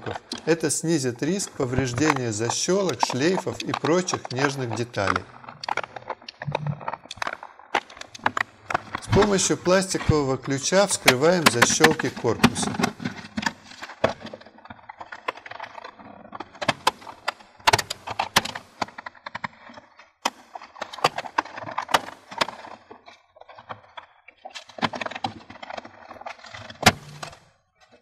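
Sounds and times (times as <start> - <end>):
scraping and handling plastic case: 0.0 - 28.0.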